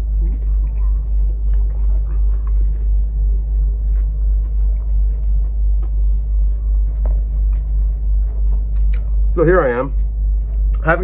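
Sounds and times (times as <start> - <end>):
deep throbbing rumble: 0.0 - 11.0.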